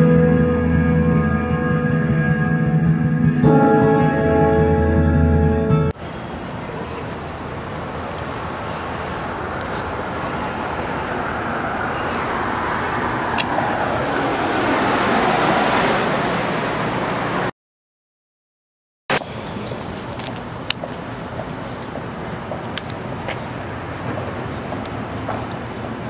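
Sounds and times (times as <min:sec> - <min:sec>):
street traffic rushing: 0:00.0 - 0:17.5, 0:19.1 - 0:26.0.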